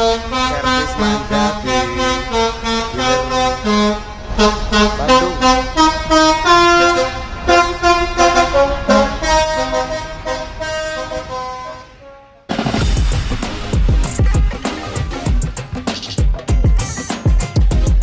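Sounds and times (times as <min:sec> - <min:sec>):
multi-tone bus air horn melody: 0:00.0 - 0:12.6, 0:13.3 - 0:15.8.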